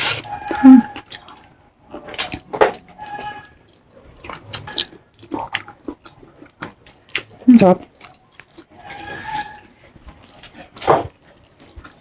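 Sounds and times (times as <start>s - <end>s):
wet mouth eating sounds: 0.0s - 12.0s.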